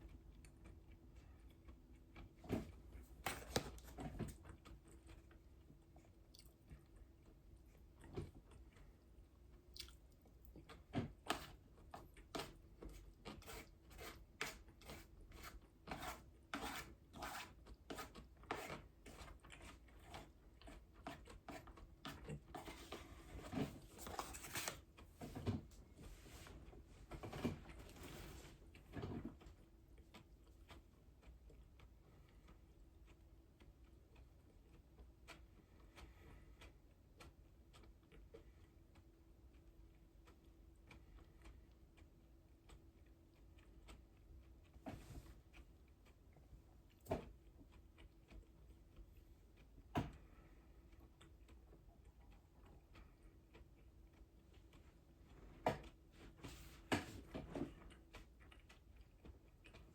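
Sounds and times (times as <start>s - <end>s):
person chewing crisp food: 0.0s - 25.2s, 28.6s - 56.1s, 57.7s - 59.9s.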